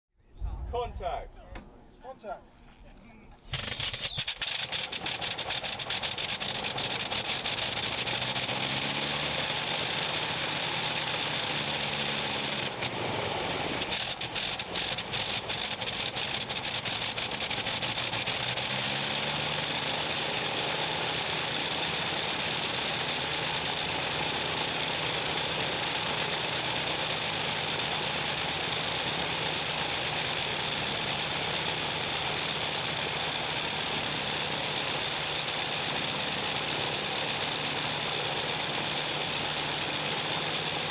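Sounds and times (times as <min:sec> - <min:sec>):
rotary engine running: 0:03.5 - 0:40.9.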